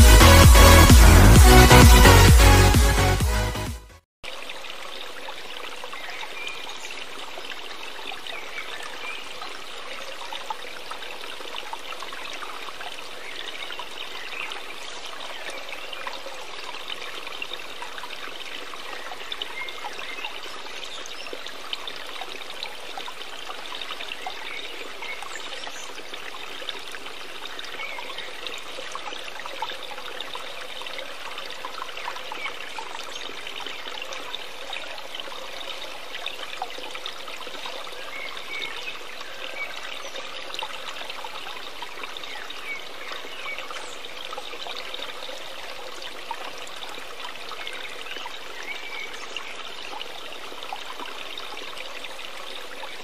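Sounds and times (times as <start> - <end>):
running water trickling: 4.2 - 53.0.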